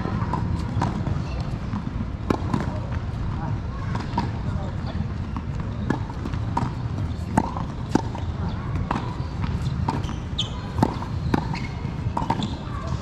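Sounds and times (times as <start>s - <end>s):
tennis balls struck and bouncing: 0.0s - 13.0s.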